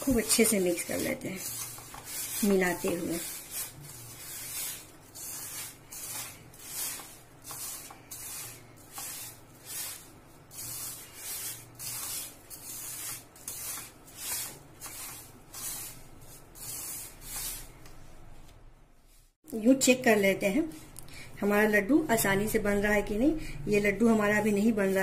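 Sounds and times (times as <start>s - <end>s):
hand mixing flour in steel bowl: 0.0s - 23.2s, 23.8s - 25.0s.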